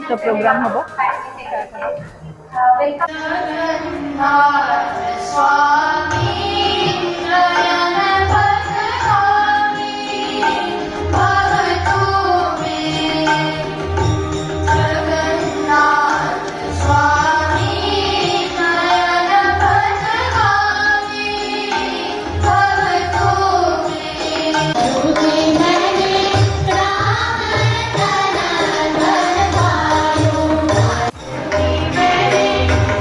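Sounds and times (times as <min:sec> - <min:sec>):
steady drum accompaniment: 0:00.0 - 0:33.0
devotional singing: 0:02.7 - 0:33.0.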